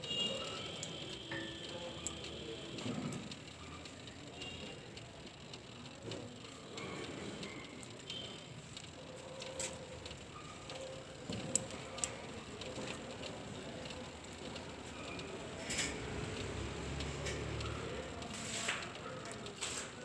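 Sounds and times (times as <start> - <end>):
sharp clicks: 0.0 - 20.0.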